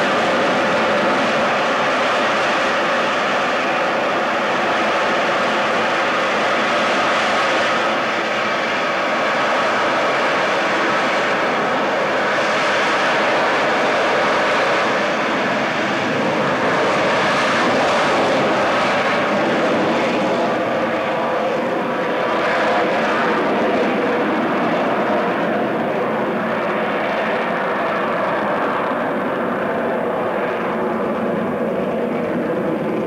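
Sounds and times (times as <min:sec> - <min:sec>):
jet engine roaring with whine: 0:00.0 - 0:33.0.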